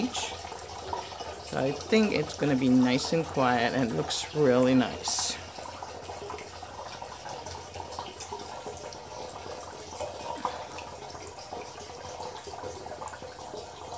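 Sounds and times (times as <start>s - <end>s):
fountain water trickling: 0.0s - 13.9s.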